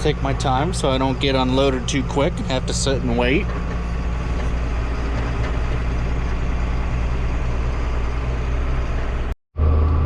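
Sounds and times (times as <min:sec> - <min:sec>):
tractor diesel engine droning: 0:00.0 - 0:10.0.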